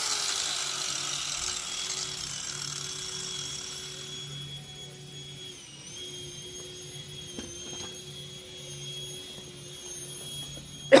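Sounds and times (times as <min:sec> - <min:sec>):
high-pitched machine whine: 0:00.0 - 0:11.0
low hum: 0:00.0 - 0:11.0.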